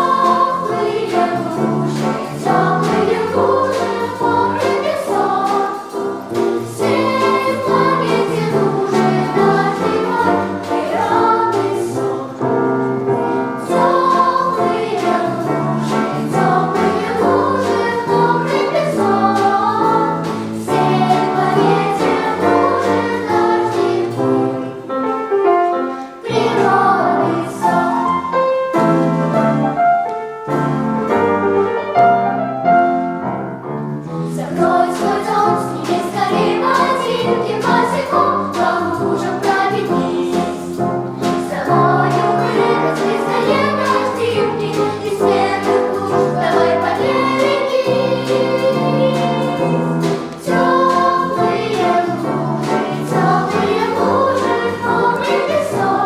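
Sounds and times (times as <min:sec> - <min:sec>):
vocal ensemble singing: 0:00.0 - 0:24.9, 0:26.1 - 0:28.5, 0:34.0 - 0:56.0.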